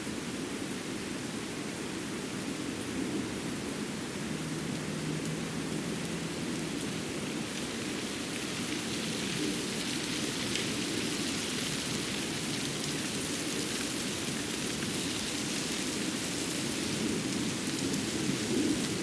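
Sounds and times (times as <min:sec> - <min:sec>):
forest ambience hiss: 0:00.0 - 0:19.0.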